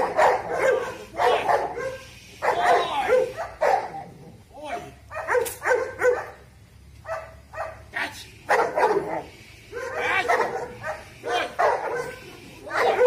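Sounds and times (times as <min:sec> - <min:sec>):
dog barking: 0:00.0 - 0:04.0, 0:04.7 - 0:06.4, 0:07.0 - 0:07.9, 0:08.5 - 0:13.0.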